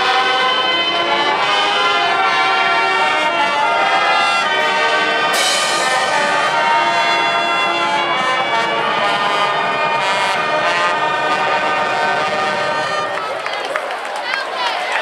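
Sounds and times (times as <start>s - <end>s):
marching band brass chords: 0.0s - 13.9s.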